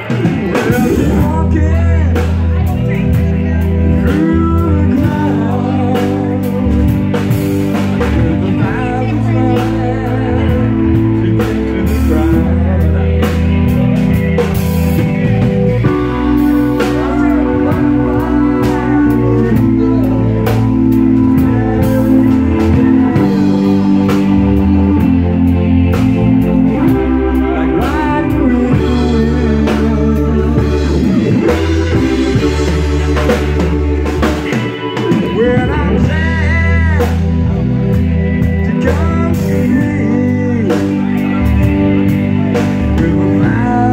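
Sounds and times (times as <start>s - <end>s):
drum kit with cymbals: 0.0s - 43.9s
electric guitar: 0.0s - 43.9s
keyboards: 0.0s - 43.9s.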